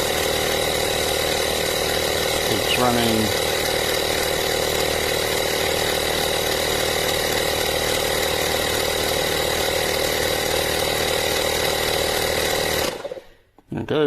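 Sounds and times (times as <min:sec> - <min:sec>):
electric tyre compressor running: 0:00.0 - 0:13.4.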